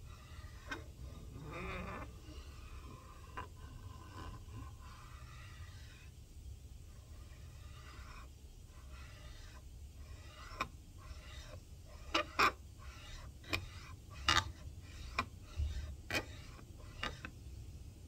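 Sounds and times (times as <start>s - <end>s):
metal rasping on abrasive sheet: 0.0s - 6.2s, 6.9s - 17.3s.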